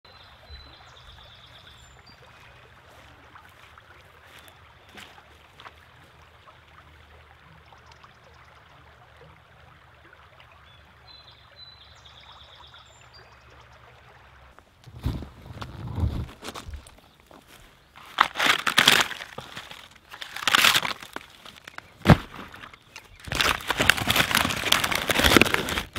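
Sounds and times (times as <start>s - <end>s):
river water flowing: 0.1s - 14.9s, 15.9s - 25.9s.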